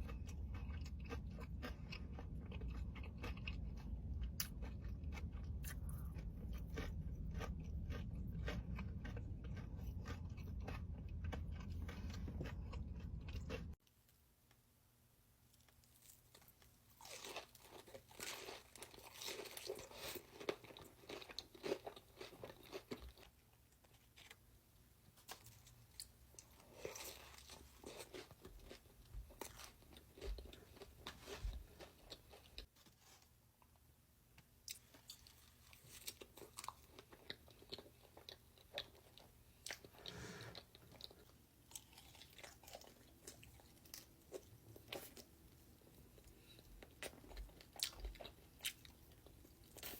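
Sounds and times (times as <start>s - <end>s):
person chewing crunchy food: 0.0s - 13.8s, 15.6s - 24.4s, 25.2s - 32.8s, 34.7s - 49.9s.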